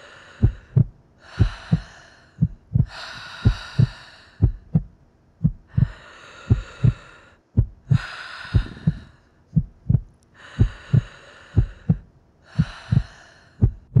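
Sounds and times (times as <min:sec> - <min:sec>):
breaths rushing in and out: 0:00.0 - 0:14.0
heartbeat double thump: 0:00.4 - 0:07.0, 0:07.6 - 0:14.0.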